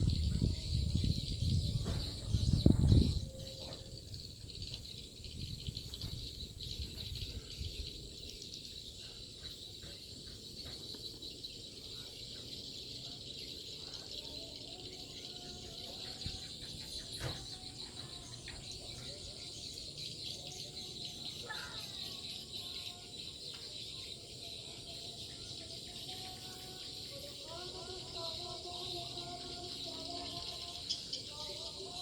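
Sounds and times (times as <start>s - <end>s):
insect chorus: 0.0s - 32.0s.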